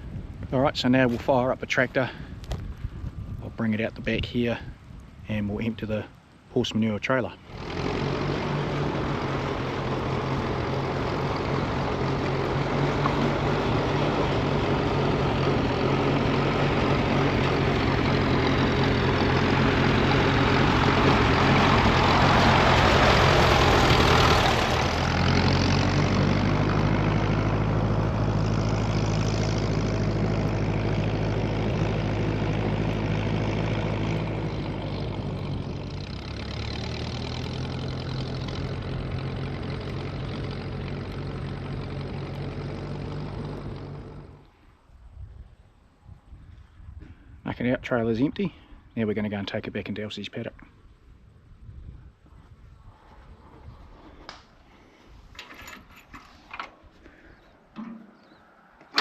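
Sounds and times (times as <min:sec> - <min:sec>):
tractor engine running: 0:00.0 - 0:44.5, 0:55.2 - 0:59.0.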